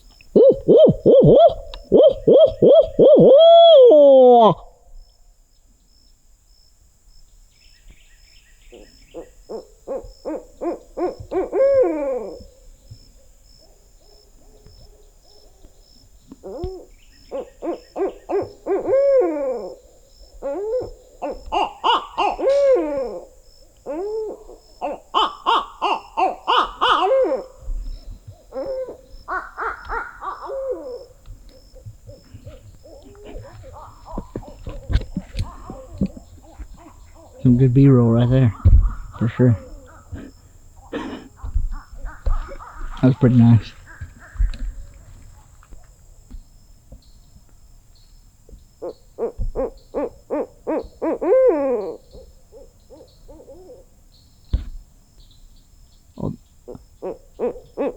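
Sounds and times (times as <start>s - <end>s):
owls hooting: 0.3s - 4.8s, 8.6s - 45.9s, 48.8s - 54.0s, 56.2s - 57.9s.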